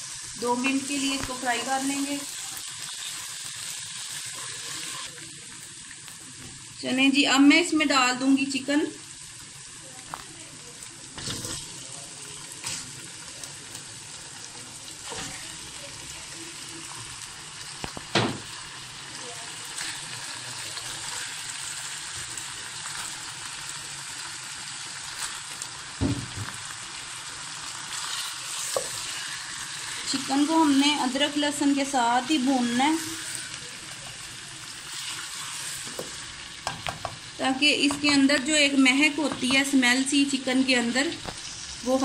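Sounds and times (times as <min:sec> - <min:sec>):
paste sizzling in hot oil: 0:00.0 - 0:42.0.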